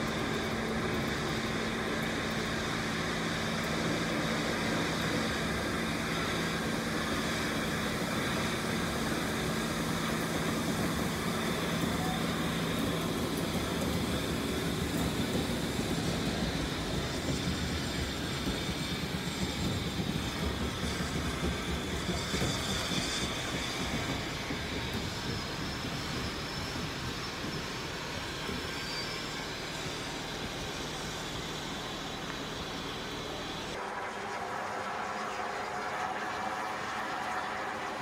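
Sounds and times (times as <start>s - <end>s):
rumble of engines and wheels: 0.0s - 38.0s
steam locomotives passing: 0.0s - 38.0s.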